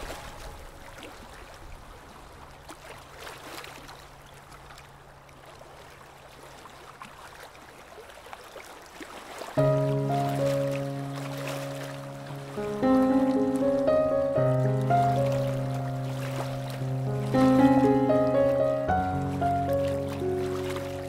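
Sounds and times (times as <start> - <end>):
sea waves washing on shore: 0.0 - 4.1, 6.2 - 21.0.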